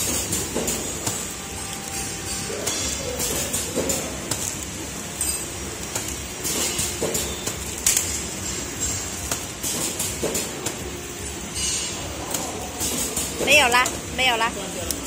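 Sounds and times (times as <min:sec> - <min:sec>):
packing machine hum: 0:00.0 - 0:15.0.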